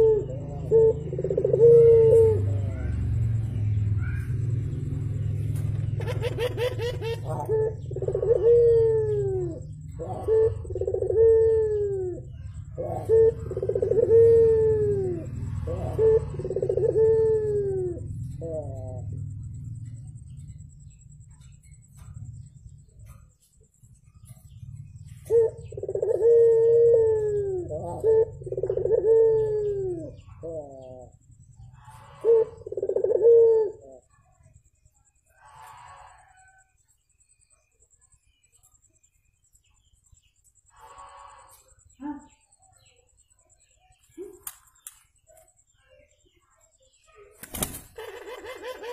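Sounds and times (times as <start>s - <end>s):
dove cooing: 0.0s - 22.2s, 24.1s - 34.6s, 40.7s - 48.9s
steady low hum: 0.0s - 48.9s.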